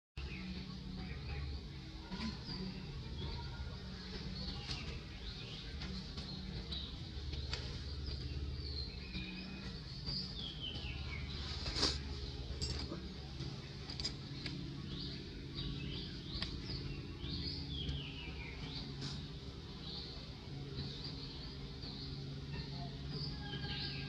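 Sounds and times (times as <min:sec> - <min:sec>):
birds chirping: 0:00.2 - 0:24.0
low background hum: 0:00.2 - 0:24.0.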